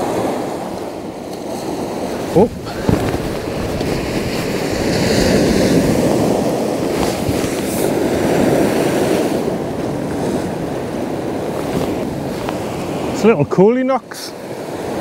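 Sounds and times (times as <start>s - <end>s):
wind on microphone: 0.0s - 13.2s
surf breaking on rocks: 0.0s - 13.5s.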